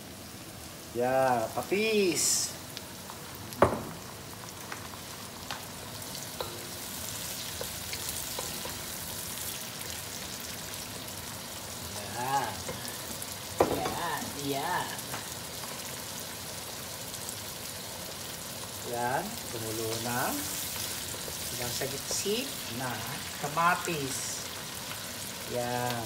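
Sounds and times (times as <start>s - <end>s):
food sizzling in a hot pan: 0.0s - 26.0s.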